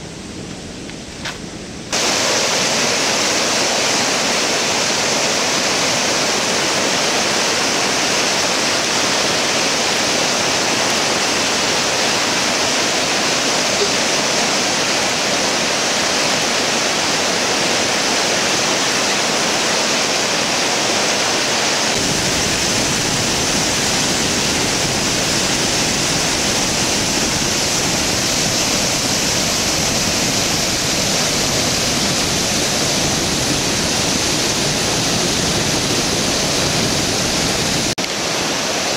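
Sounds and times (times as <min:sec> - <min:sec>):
white-water roar: 0:01.9 - 0:38.9.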